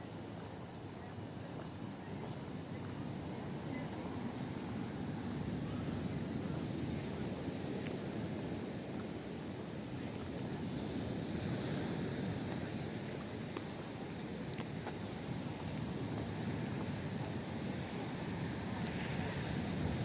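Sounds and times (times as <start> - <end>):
low rushing outdoor noise: 0.0 - 20.0.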